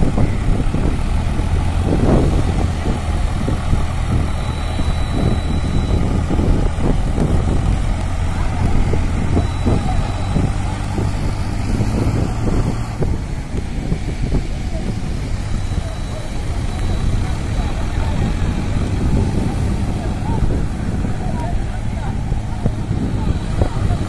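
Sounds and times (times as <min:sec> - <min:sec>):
tractor diesel engine running: 0:00.0 - 0:24.0
voices in background: 0:00.0 - 0:24.0.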